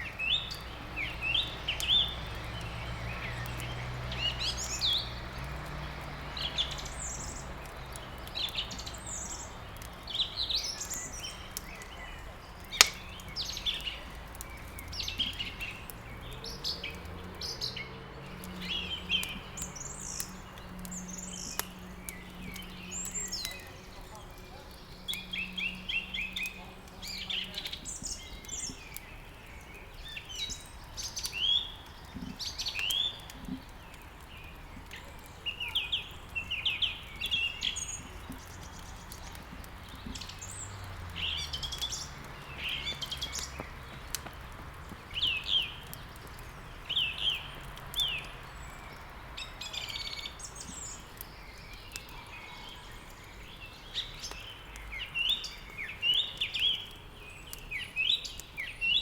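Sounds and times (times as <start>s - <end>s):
faint wood fire crackling: 0.0s - 59.0s
songbirds chirping and singing: 0.0s - 59.0s.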